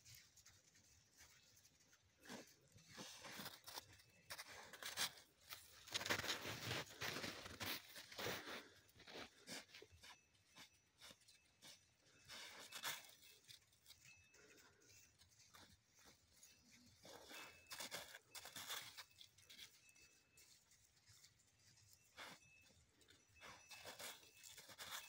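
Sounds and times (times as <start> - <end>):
dog crunching in snow: 0.0 - 10.1, 11.0 - 22.4, 23.0 - 25.0.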